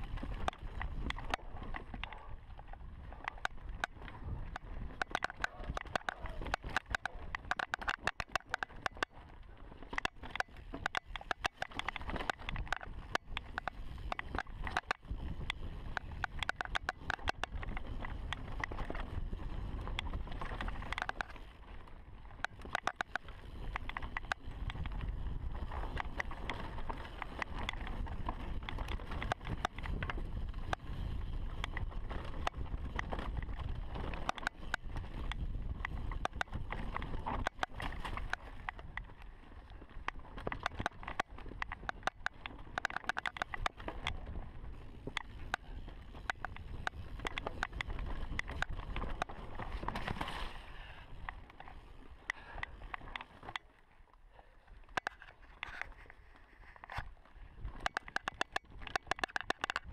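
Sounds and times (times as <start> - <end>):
wind rumble on microphone: 0.0 - 51.7, 55.0 - 59.9
bike clicking and rattling: 0.0 - 59.9
bike tyres on dirt: 0.0 - 59.9.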